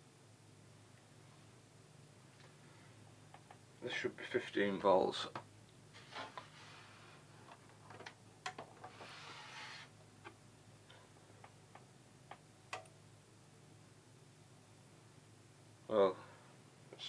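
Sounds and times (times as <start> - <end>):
low steady hum: 0.0 - 17.0
soft hiss: 0.0 - 17.0.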